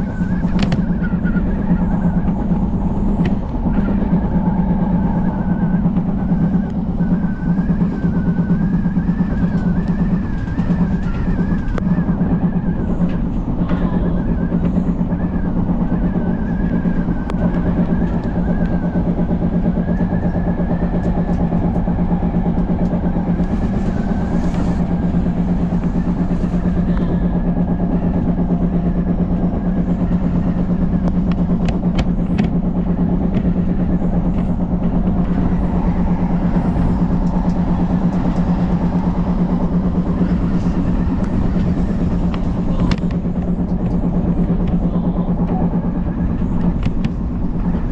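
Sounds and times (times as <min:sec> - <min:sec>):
electric train rumble and whine: 0:00.0 - 0:47.9.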